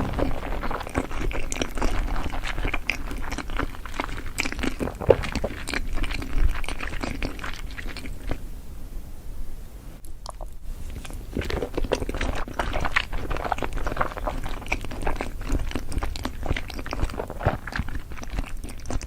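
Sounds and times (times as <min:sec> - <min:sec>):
chewing crunchy food: 0:00.8 - 0:08.5, 0:10.2 - 0:19.0.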